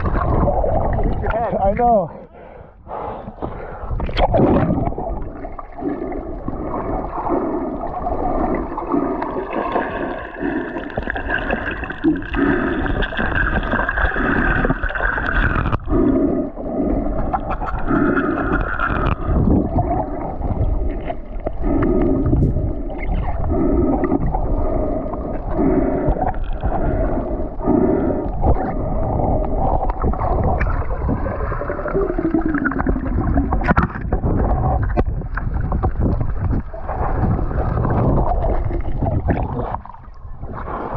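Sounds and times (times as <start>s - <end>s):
dull low underwater pulse: 2.3s - 40.9s.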